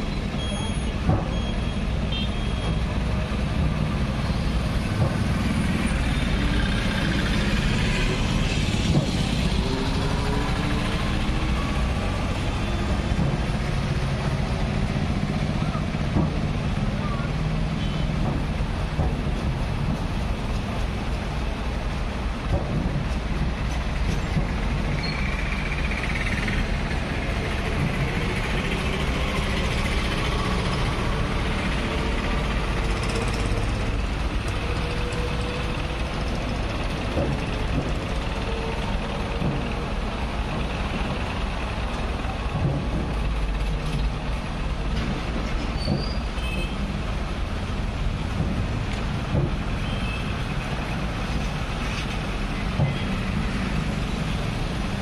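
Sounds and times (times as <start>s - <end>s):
backhoe diesel engine running: 0.0s - 55.0s
road traffic: 0.0s - 55.0s.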